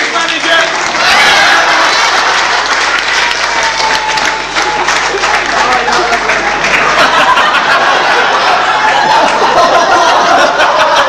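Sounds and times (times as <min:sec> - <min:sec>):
audience clapping: 0:00.0 - 0:11.0
audience laughing: 0:00.9 - 0:11.0.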